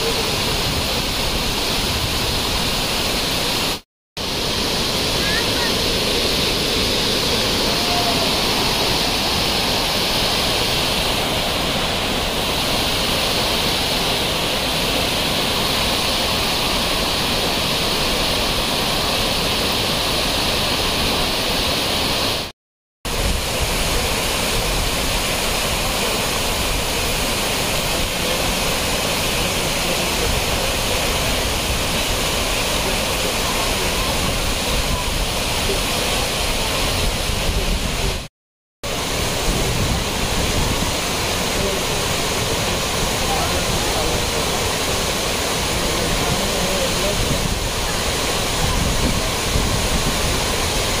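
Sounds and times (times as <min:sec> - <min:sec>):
stream and waterfall rushing: 0:00.0 - 0:22.5, 0:23.1 - 0:51.0.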